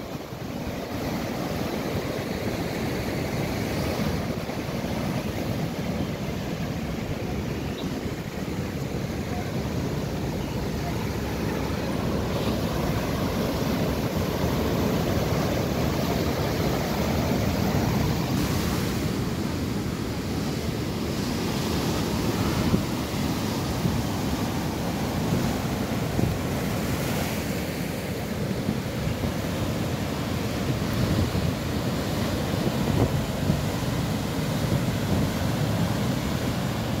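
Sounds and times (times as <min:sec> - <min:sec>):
waves breaking on rocks: 0:00.0 - 0:37.0.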